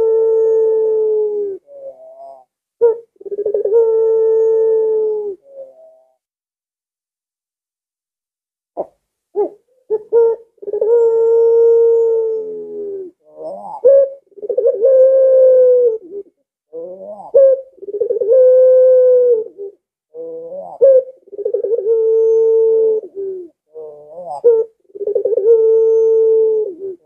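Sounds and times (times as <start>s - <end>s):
dove cooing: 0.0s - 6.2s, 8.8s - 27.0s.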